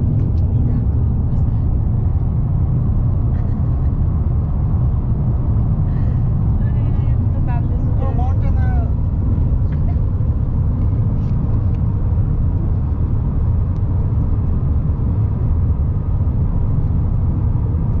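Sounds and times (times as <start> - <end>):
car road rumble: 0.0 - 18.0.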